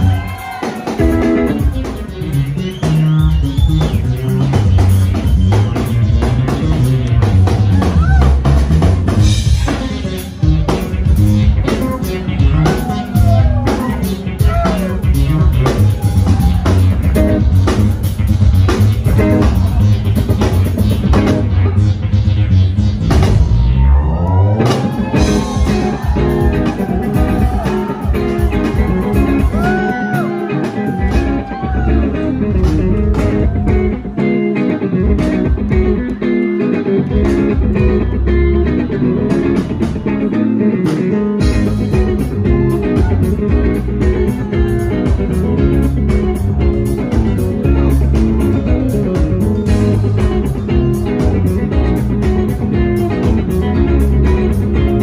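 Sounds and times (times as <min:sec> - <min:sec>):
bending lead guitar line: 0:00.0 - 0:55.0
live rock band playing: 0:00.0 - 0:55.0.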